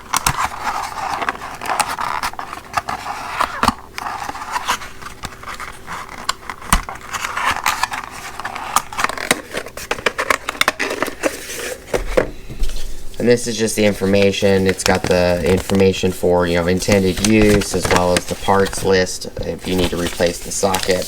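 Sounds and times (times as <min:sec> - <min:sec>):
packaging crinkling: 0:00.0 - 0:11.9, 0:12.8 - 0:21.0.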